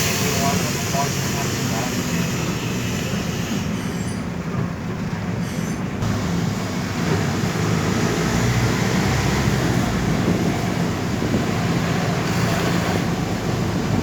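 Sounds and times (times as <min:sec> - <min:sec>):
vehicle engine and road rumble: 0:00.0 - 0:14.0.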